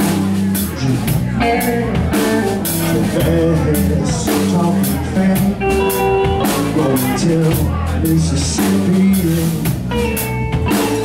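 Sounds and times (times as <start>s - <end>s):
drum kit beat: 0.0s - 11.0s
electric guitars: 0.0s - 11.0s
heavy low bass line: 0.0s - 11.0s.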